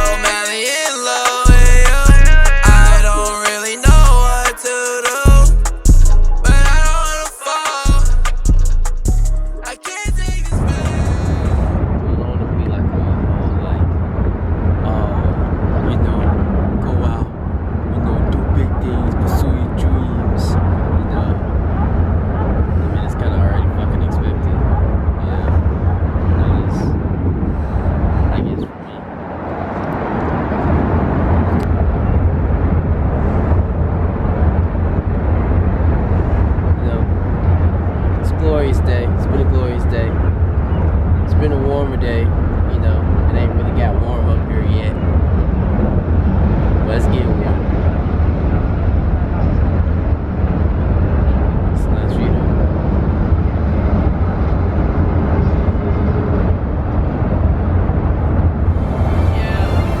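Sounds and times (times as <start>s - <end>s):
low rumbling outdoor noise: 0.0s - 0.3s, 7.9s - 60.0s
wind buffeting the microphone: 10.6s - 60.0s.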